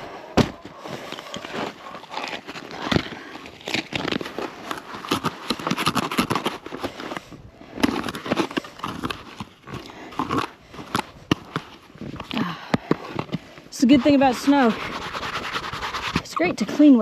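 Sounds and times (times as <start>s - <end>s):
packed snow crunching and scraping: 0.0s - 17.0s.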